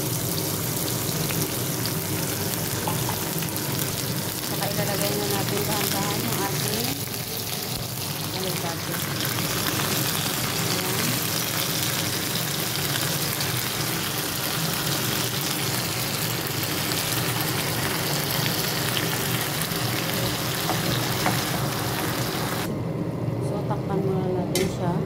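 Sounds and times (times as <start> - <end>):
sauce sizzling in a pan: 0.0 - 22.7.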